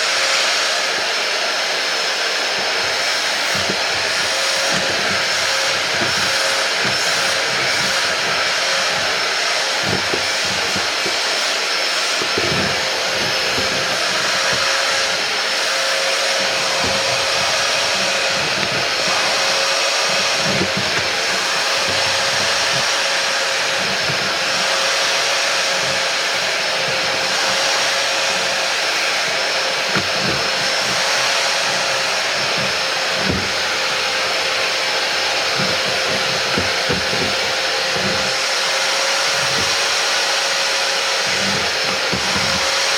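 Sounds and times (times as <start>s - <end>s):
spot cleaner suction motor whine: 0.0s - 42.9s
nozzle bumping on carpet: 2.4s - 40.1s, 40.9s - 42.9s.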